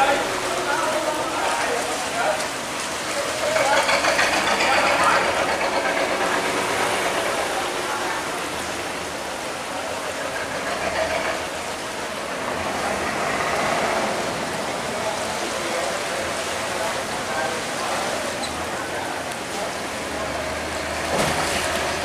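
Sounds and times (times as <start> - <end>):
river current rushing: 0.0 - 22.0
water churning against boat hull: 0.0 - 22.0.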